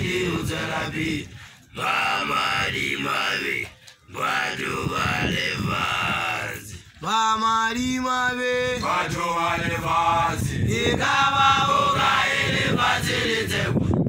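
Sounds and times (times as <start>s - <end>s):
group chanting a song: 0.0s - 6.8s, 8.7s - 14.0s.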